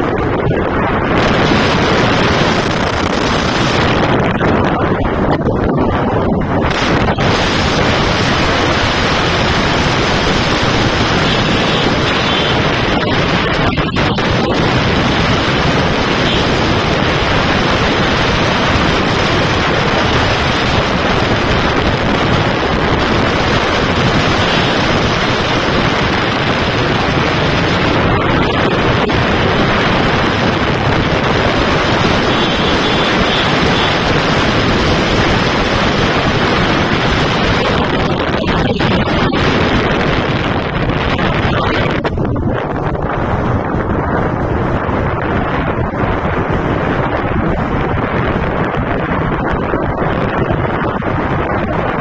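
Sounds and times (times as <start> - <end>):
wind noise on microphone: 0.0 - 52.0.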